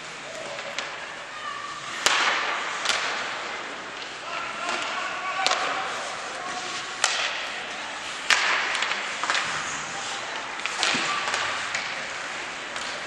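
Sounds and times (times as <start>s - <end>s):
hockey sticks and puck clacking: 0.0s - 13.0s
skate blades scraping ice: 1.8s - 13.0s.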